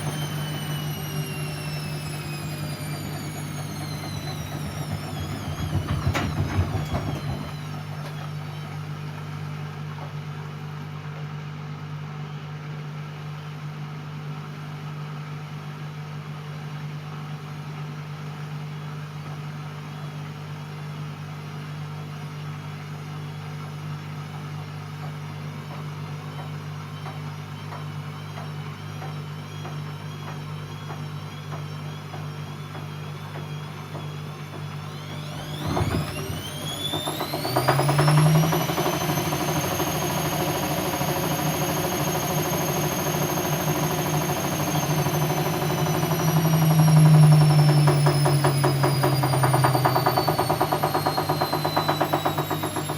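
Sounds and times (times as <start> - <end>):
washing machine motor hum: 0.0 - 12.4, 13.0 - 52.9.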